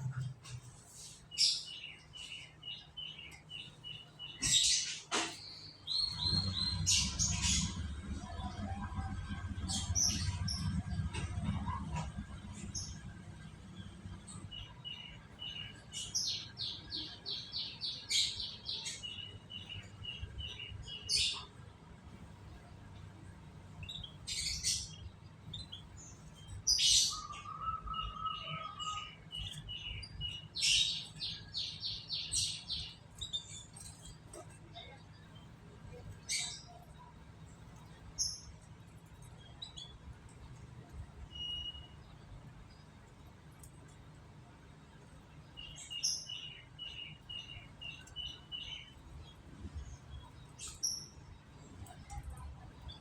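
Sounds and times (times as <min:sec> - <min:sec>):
canaries chirping: 0:00.0 - 0:21.6, 0:23.6 - 0:42.3, 0:45.0 - 0:53.0.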